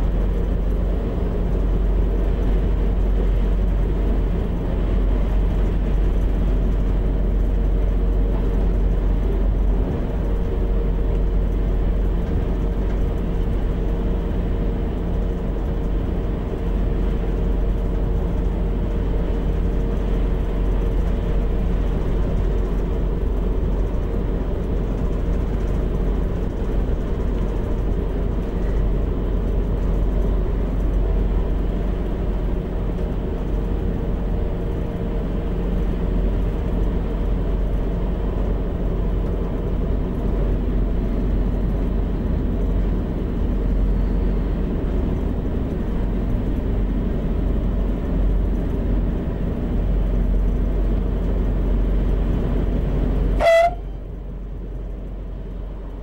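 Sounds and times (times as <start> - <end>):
diesel railcar drone: 0.0 - 56.0
wheel-on-rail rumble: 0.0 - 56.0.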